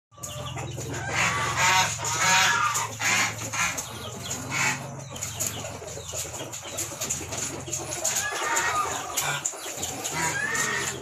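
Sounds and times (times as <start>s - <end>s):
birds clucking: 0.1s - 11.0s.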